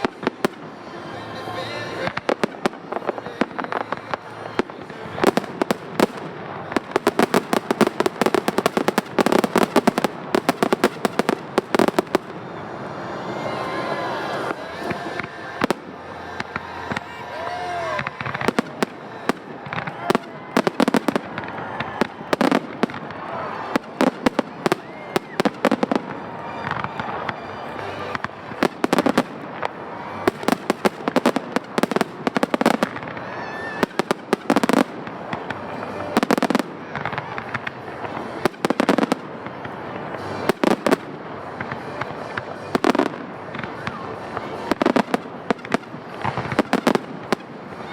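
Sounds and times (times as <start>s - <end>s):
firework crackling: 0.0s - 47.9s.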